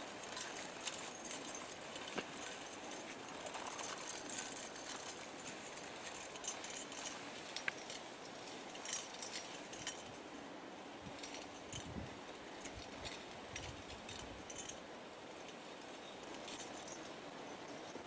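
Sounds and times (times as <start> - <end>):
chain hitch clinking: 0.0 - 18.0
harness jingling and clinking: 0.0 - 18.0.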